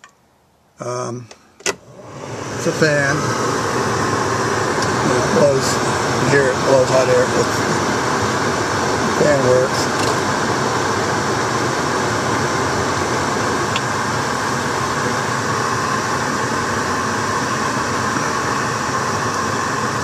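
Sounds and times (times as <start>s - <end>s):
car heater fan blowing air: 0.8s - 20.0s.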